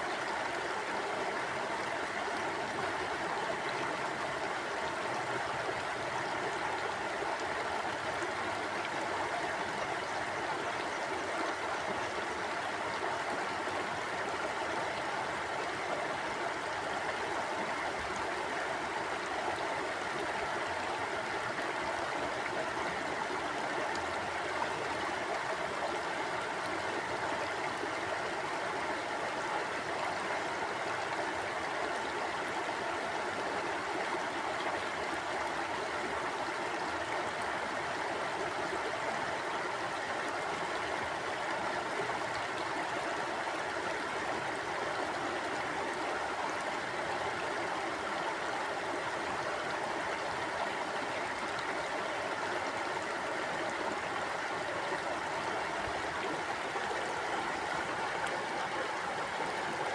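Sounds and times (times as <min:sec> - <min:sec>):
river water rushing over rocks: 0:00.2 - 0:59.9.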